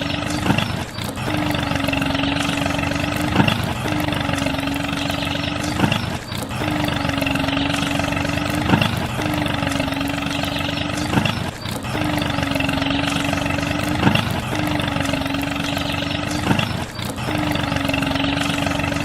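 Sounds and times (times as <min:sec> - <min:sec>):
sharp clicks: 0:00.0 - 0:19.0
small motor running: 0:00.0 - 0:19.0.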